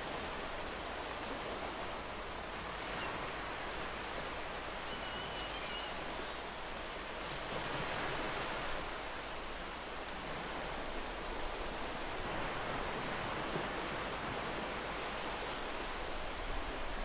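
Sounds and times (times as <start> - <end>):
ocean waves washing up beach: 0.0 - 17.0.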